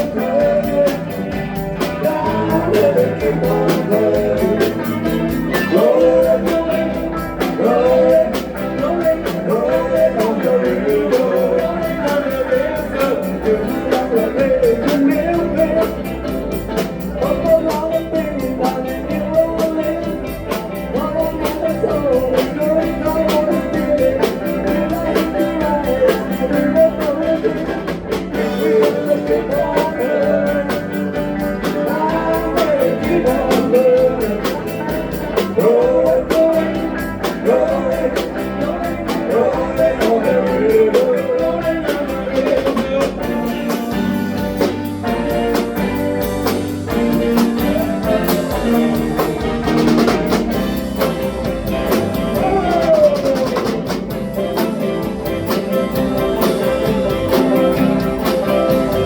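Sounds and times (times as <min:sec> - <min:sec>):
band playing rock and roll: 0:00.0 - 0:59.0.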